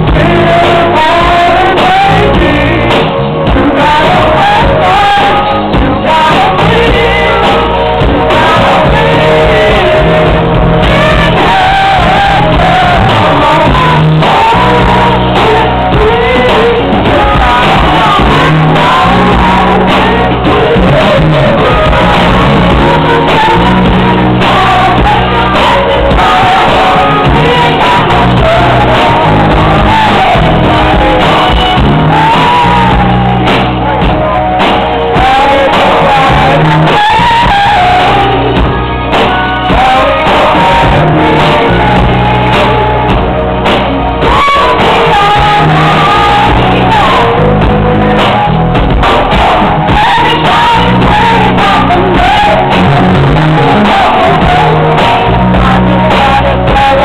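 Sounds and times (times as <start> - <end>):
band with bass and drums: 0.0 - 57.0
woman singing: 0.0 - 57.0.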